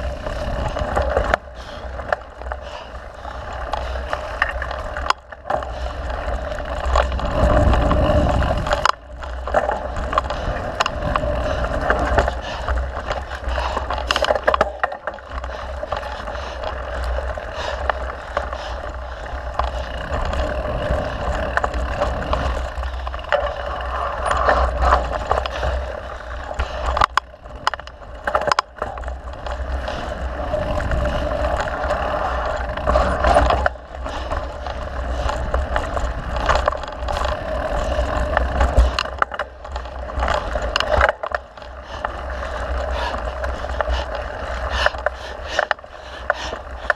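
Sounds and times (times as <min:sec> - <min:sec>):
bike chain and frame rattling: 0:00.0 - 0:46.9
bike tyres rolling on dirt: 0:00.0 - 0:46.9.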